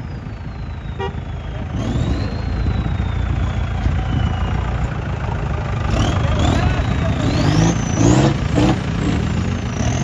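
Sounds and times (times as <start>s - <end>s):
off-road vehicle engines: 0.0s - 10.0s.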